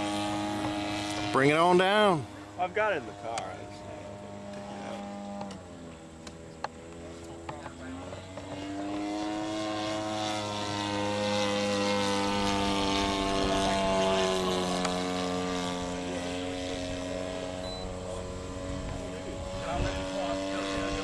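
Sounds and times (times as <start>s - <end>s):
model airplane engine flying past: 0.0s - 21.0s.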